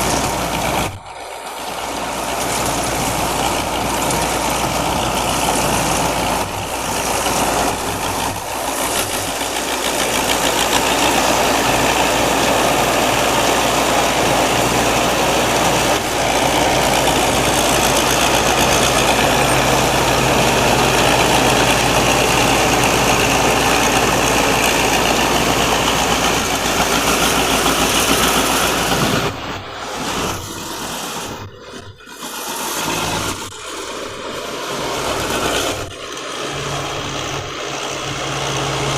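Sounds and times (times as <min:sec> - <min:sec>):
combine harvester diesel engine: 0:00.0 - 0:38.9.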